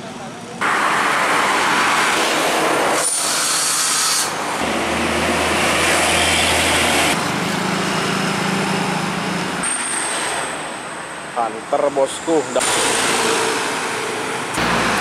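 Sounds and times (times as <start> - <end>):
tyre noise on road: 0.0 - 11.4, 12.3 - 15.0
diesel trucks passing: 0.0 - 15.0.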